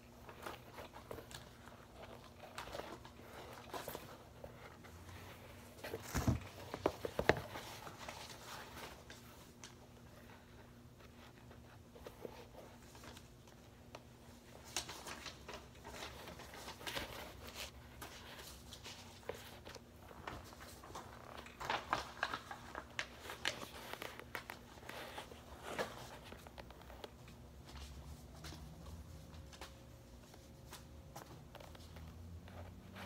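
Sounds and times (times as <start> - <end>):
faint steady hum: 0.0 - 33.0
shoe rustling and creaking: 0.1 - 14.6, 15.6 - 33.0.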